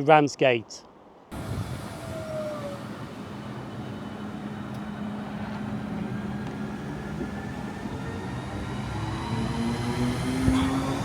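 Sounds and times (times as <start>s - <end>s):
electric train humming: 1.3s - 11.0s
short falling whine: 1.3s - 11.0s.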